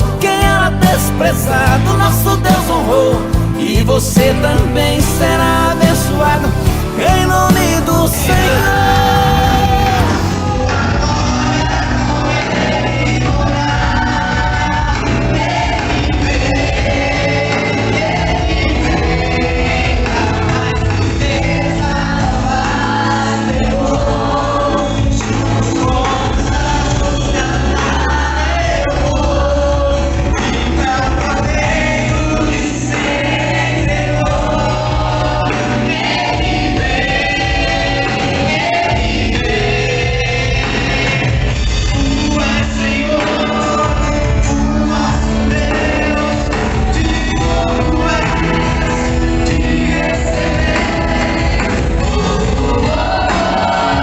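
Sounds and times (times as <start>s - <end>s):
gospel band playing: 0.0s - 54.0s
people singing: 0.0s - 54.0s.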